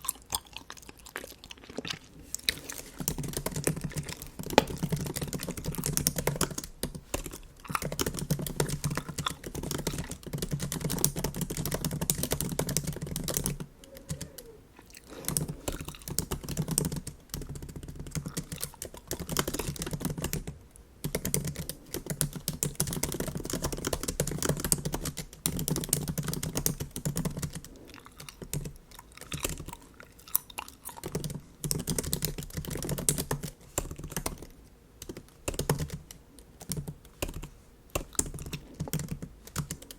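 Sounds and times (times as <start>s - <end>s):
keyboard typing: 2.8s - 29.8s, 31.0s - 39.9s.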